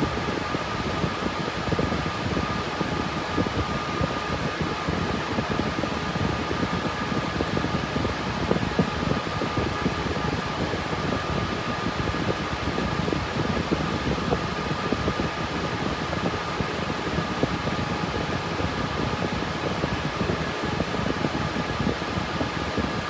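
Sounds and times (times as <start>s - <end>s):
cooling fans rushing air: 0.0s - 23.0s.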